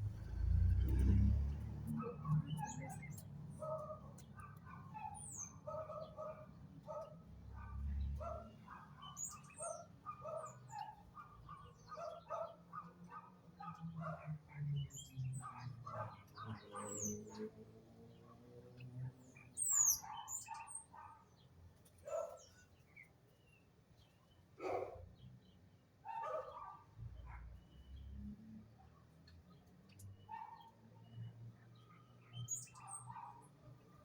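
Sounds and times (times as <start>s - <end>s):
birds chirping: 1.6s - 17.5s, 18.1s - 28.3s, 29.5s - 34.0s.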